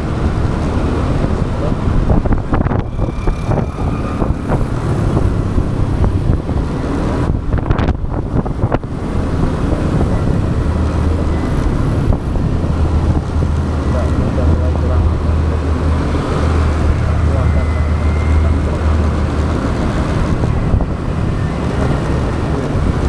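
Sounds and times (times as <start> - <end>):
motorbike engine: 0.0 - 23.0
tyre noise on road: 0.0 - 23.0
wind buffeting microphone: 0.0 - 23.0.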